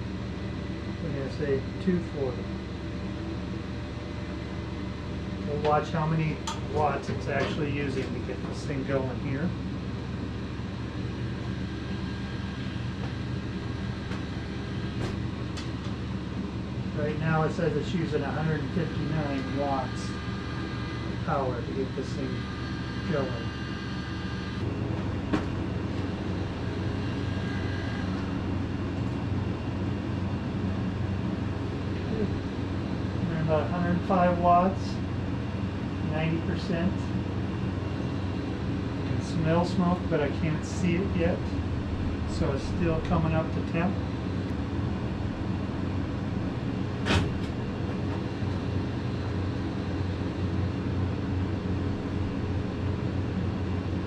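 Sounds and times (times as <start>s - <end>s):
fan humming: 0.0s - 54.0s.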